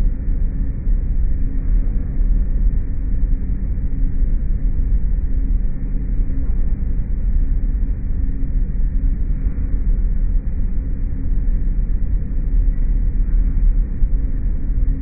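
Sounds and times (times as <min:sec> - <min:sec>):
low machine drone: 0:00.0 - 0:15.0.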